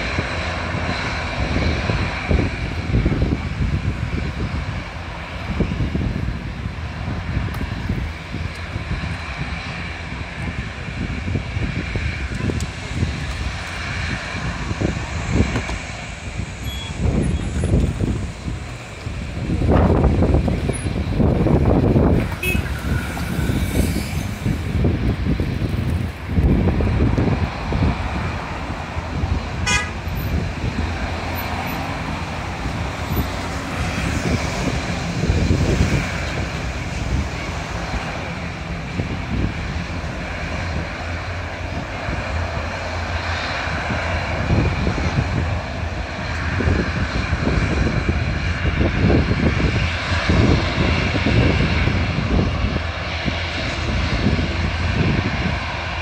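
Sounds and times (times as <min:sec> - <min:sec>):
turboprop engines drone: 0:00.0 - 0:56.0
wind buffeting microphone: 0:00.0 - 0:56.0.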